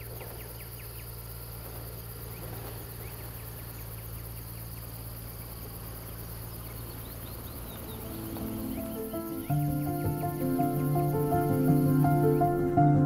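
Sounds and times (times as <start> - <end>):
bird chirping: 0.0 - 13.0
steady low hum: 0.0 - 13.0.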